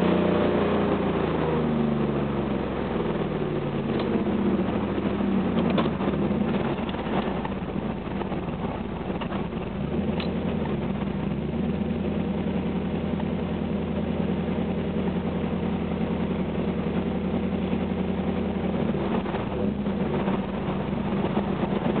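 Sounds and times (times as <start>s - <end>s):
car engine exhaust note: 0.0s - 22.0s.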